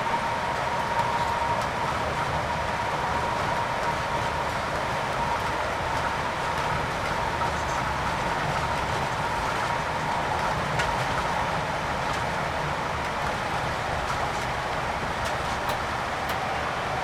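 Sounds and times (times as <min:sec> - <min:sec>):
coach engine rumble: 0:00.1 - 0:17.0.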